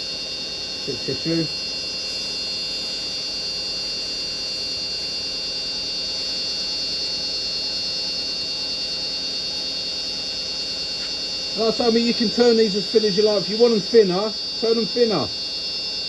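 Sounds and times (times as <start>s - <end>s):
wood lathe motor hum and whine: 0.0s - 16.0s.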